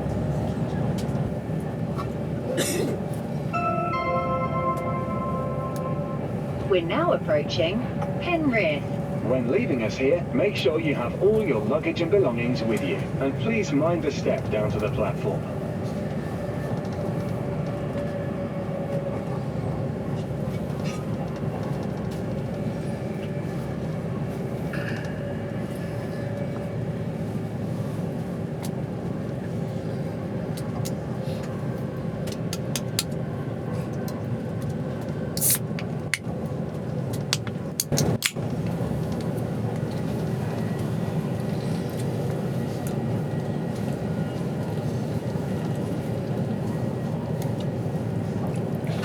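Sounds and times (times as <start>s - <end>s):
train carriage rumble: 0.0s - 49.0s.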